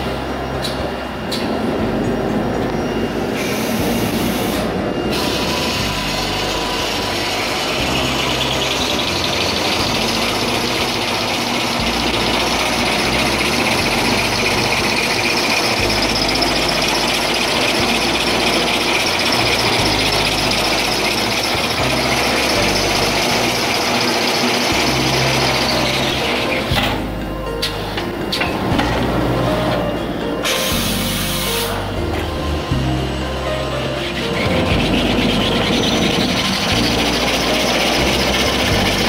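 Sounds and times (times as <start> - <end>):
machine rollers running: 0.0 - 39.0
high hiss and squeal: 2.3 - 26.8, 30.4 - 31.9, 33.6 - 39.0.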